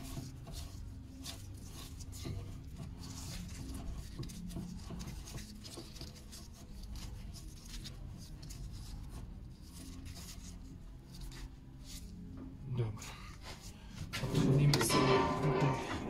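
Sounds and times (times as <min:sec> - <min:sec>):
scratchy metal thread rubbing: 0:00.0 - 0:12.6, 0:13.4 - 0:16.0.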